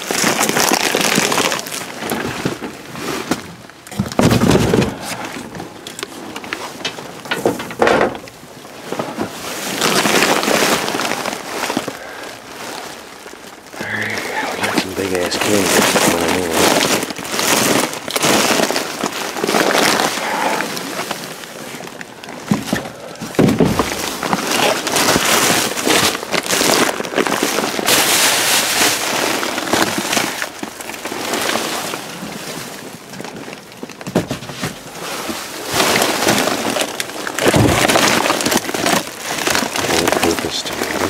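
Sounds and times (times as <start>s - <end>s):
plastic bags rustling: 0.0s - 41.0s.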